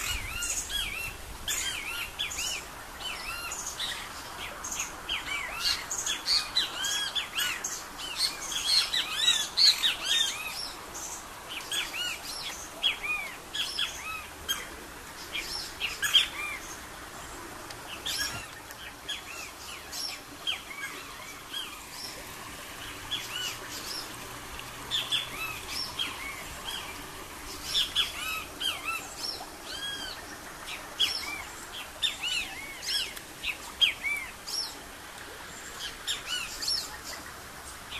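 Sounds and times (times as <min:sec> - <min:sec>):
birds chirping: 0:00.0 - 0:34.8.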